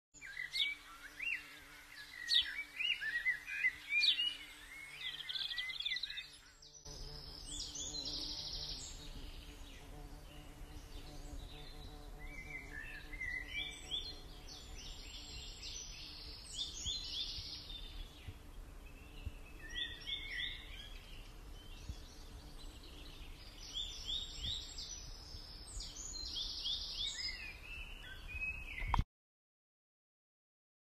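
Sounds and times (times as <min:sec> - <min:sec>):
birds chirping and singing: 0:00.2 - 0:29.0.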